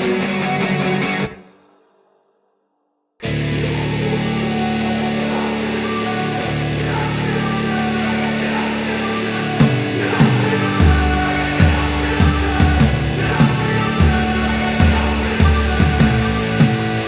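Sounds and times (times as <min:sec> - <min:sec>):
guitar rock music: 0:00.0 - 0:01.5, 0:03.2 - 0:17.0.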